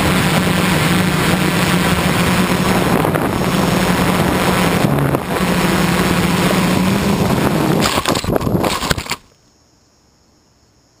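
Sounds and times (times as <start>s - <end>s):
drone motors humming: 0.0s - 9.2s.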